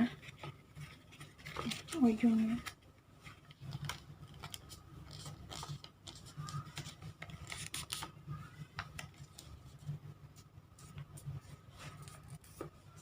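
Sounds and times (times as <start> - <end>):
paper folding and creasing: 0.0 - 13.0.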